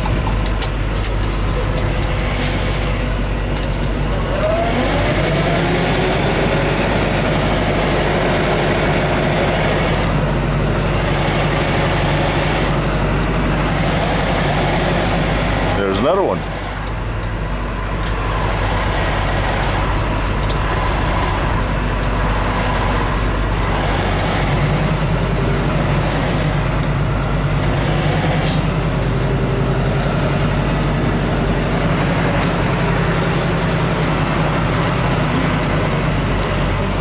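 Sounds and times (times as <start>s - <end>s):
diesel truck engine from cab: 0.0s - 37.0s.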